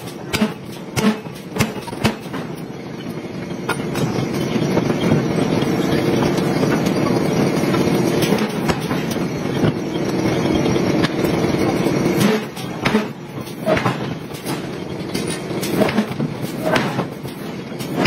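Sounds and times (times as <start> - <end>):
forging machinery grinding rumble: 0.0 - 18.0.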